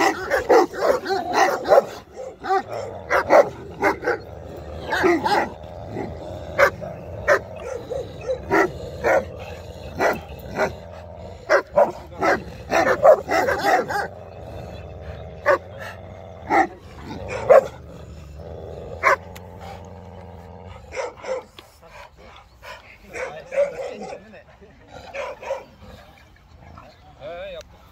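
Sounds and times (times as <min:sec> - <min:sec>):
large dogs barking: 0:00.0 - 0:27.0.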